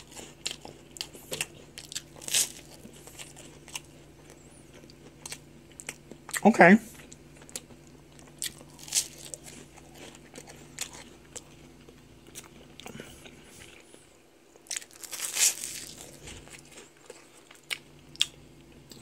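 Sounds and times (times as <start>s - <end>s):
chewing toast crunches: 0.0s - 6.4s, 7.0s - 19.0s.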